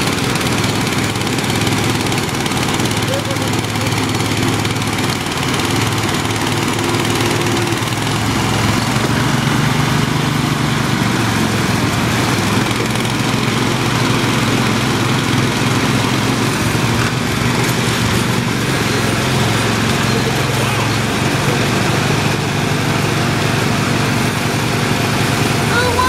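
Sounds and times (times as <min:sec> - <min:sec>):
tractor engines running under load: 0:00.0 - 0:26.0
tyres spinning on turf: 0:00.0 - 0:26.0.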